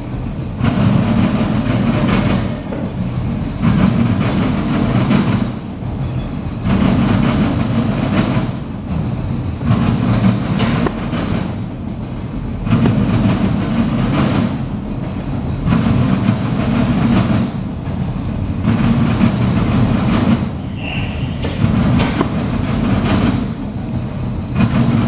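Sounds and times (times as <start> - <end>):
train wheels clattering on rail: 0.0 - 25.0.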